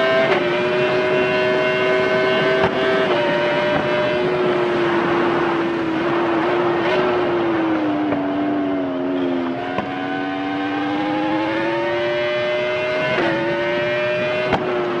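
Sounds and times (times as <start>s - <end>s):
motorcycle engine revving high: 0.0s - 15.0s.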